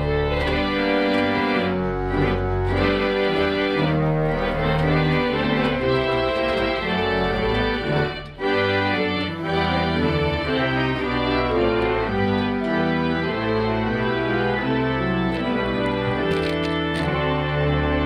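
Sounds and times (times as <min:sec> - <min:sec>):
pipe organ chords: 0:00.0 - 0:18.0.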